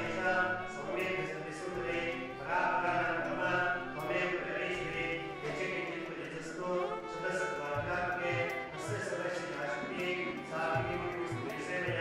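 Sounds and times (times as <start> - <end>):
several voices singing held notes: 0.0 - 12.0.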